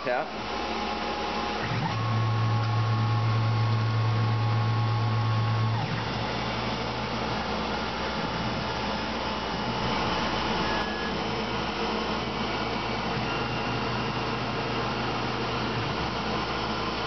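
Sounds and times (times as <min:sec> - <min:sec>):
milling machine drilling plastic: 0:00.0 - 0:17.0.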